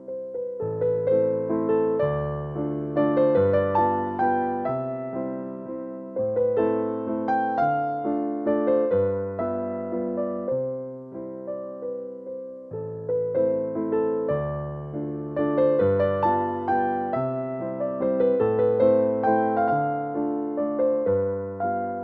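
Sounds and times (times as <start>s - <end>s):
keyboard melody over chords: 0.0s - 22.0s.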